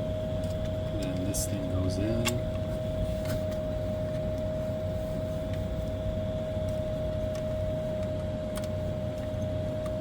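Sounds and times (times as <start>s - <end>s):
mid-pitched whine: 0.0s - 10.0s.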